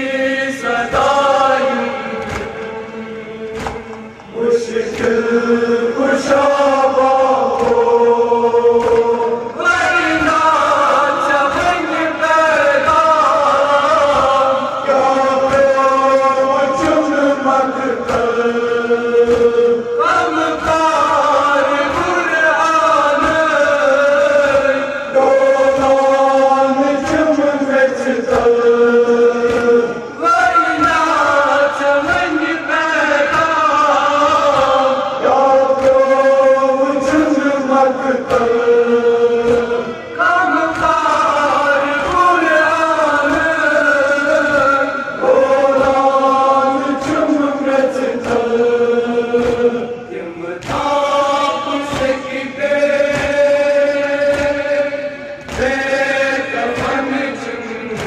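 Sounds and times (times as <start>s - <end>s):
men chanting a lament: 0.0s - 58.0s
rhythmic chest-beating: 0.0s - 58.0s.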